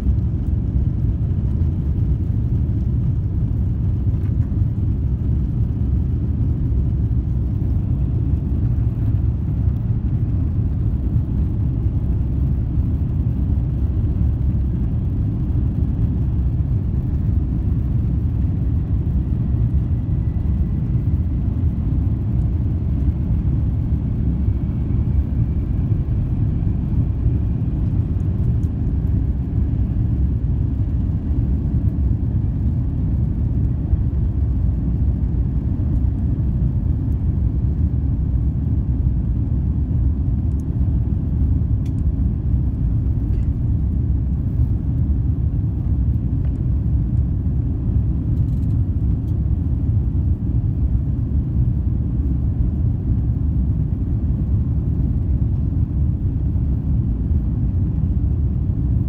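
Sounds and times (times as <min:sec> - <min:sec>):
jet engines deep rumble in cabin: 0:00.0 - 0:59.0.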